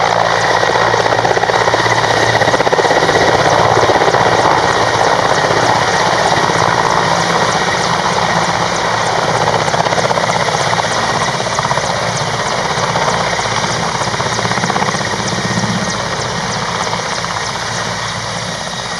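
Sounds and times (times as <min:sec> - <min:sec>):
helicopter rotor and engines: 0:00.0 - 0:18.9.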